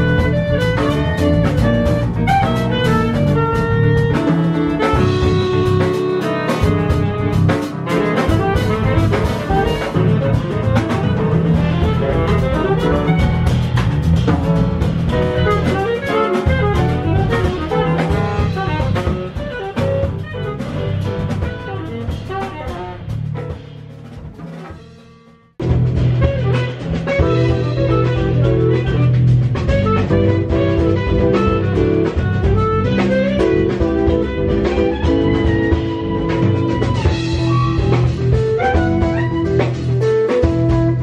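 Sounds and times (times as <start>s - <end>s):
saxophone: 0.0s - 23.7s, 25.6s - 41.0s
drum kit: 0.0s - 41.0s
electric bass: 0.0s - 41.0s
grand piano: 0.0s - 41.0s.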